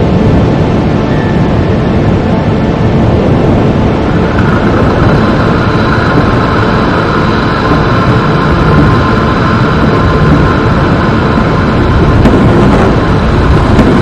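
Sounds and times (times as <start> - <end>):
heavy rumbling drone: 0.0 - 14.0.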